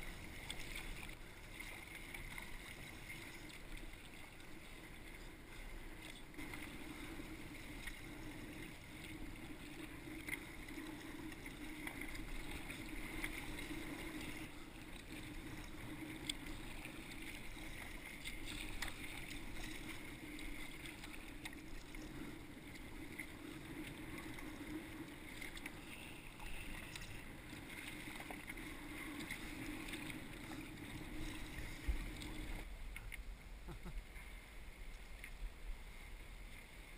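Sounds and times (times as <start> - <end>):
paddle strokes in water: 0.0 - 36.9
water lapping against kayak hull: 0.0 - 36.9.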